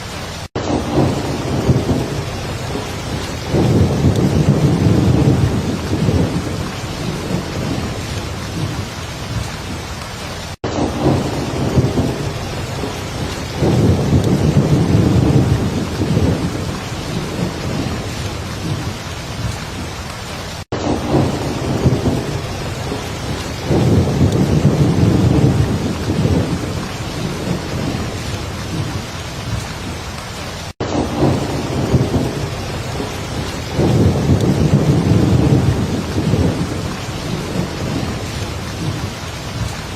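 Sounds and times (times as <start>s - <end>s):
heavy rain falling: 0.0s - 39.9s
low rolling thunder: 0.5s - 9.8s, 10.6s - 30.0s, 30.8s - 39.9s.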